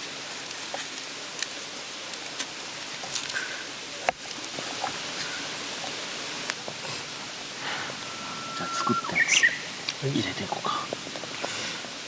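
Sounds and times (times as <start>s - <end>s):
mountain stream running: 0.0s - 12.0s.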